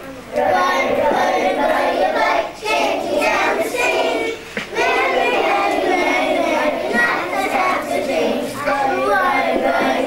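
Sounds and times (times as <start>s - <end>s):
children singing together: 0.0s - 10.0s.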